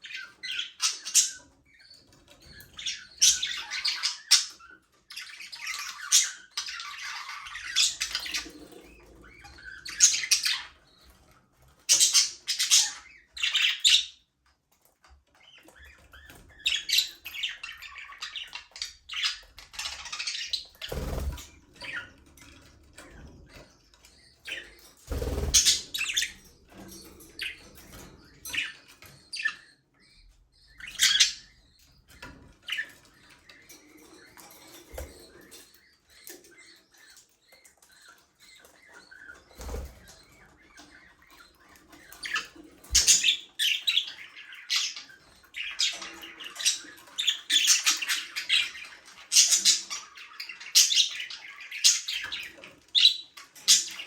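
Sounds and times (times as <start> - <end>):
budgerigars chirping: 0.0 - 14.3, 15.2 - 54.0.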